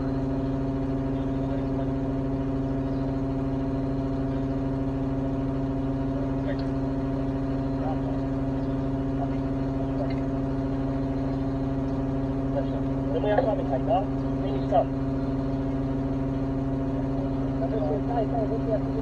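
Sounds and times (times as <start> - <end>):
truck engine humming steadily: 0.0 - 19.0.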